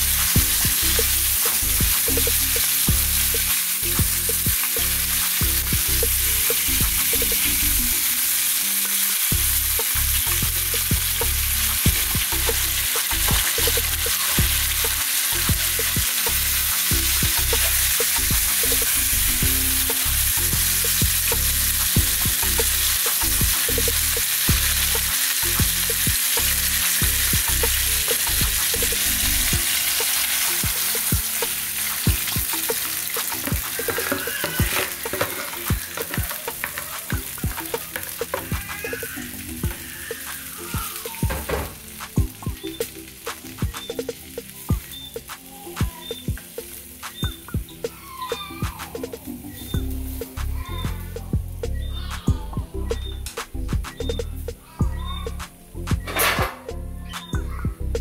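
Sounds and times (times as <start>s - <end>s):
fish frying in oil: 0.0s - 48.8s.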